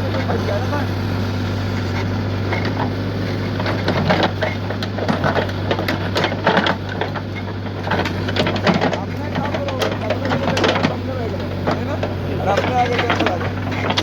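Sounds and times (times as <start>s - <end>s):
diesel engine humming: 0.0s - 14.0s
voices: 0.0s - 14.0s.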